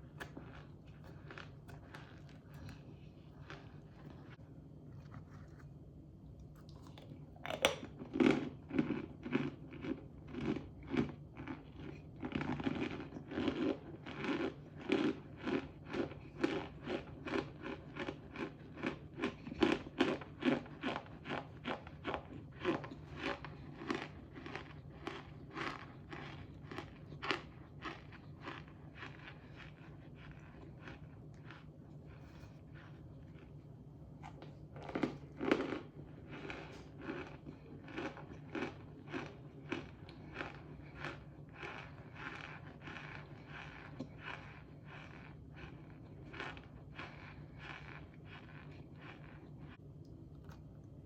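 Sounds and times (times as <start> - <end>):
crunchy food chewing: 0.0 - 51.0.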